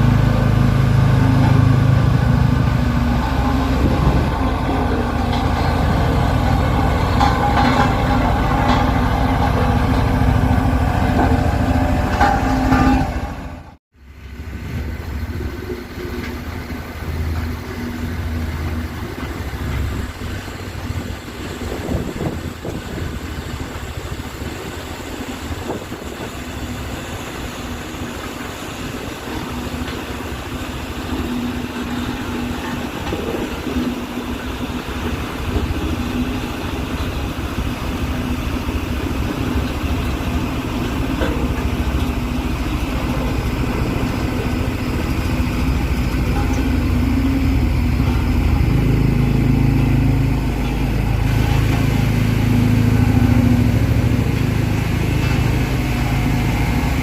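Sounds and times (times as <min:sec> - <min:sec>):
diesel engine rumbling: 0:00.0 - 0:57.0
steady machine hum: 0:00.0 - 0:57.0.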